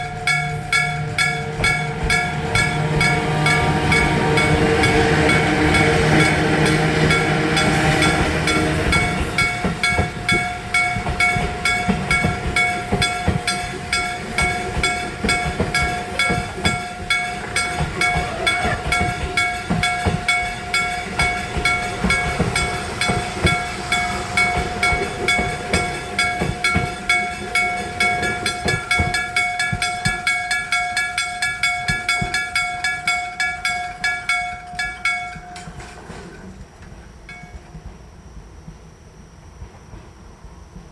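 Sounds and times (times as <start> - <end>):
level crossing bell ringing: 0.0 - 36.0
train wheels knocking on rail joints: 0.0 - 38.8.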